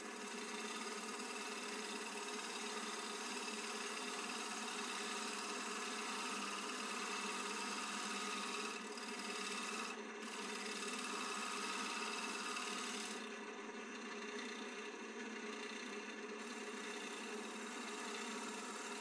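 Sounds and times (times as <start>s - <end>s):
lathe tool scraping wood: 0.0s - 19.0s
wood lathe running: 0.0s - 19.0s.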